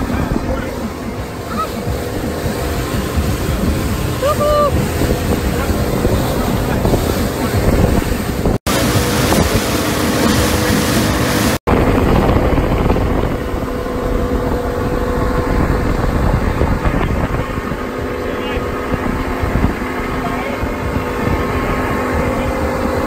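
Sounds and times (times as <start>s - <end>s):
motorboat engine drone: 0.0s - 23.0s
water rushing from wake: 0.0s - 23.0s
wind buffeting microphone: 0.0s - 23.0s.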